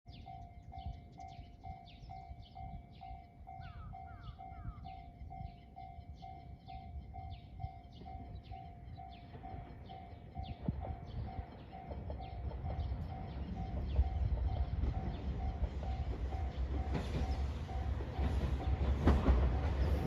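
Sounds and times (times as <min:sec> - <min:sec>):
bird chirps: 0:00.1 - 0:18.9
level crossing alarm dinging: 0:00.1 - 0:19.9.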